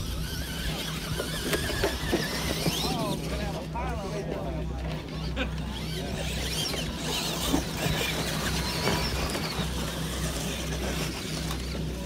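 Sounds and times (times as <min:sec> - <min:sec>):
electric motors whining: 0:00.0 - 0:12.0
steady low hum: 0:00.0 - 0:12.0.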